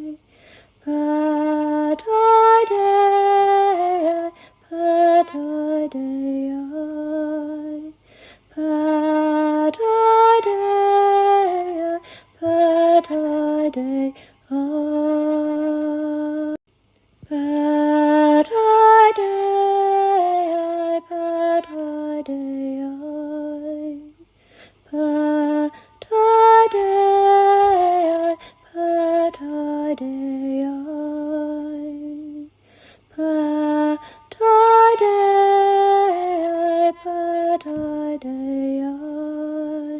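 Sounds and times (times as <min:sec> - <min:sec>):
woman singing a cappella: 0:00.0 - 0:16.6, 0:17.2 - 0:39.9.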